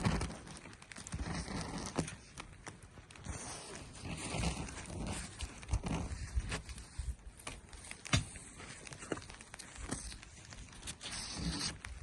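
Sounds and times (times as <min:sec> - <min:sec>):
snow pellets pattering on tent: 0:00.0 - 0:12.0.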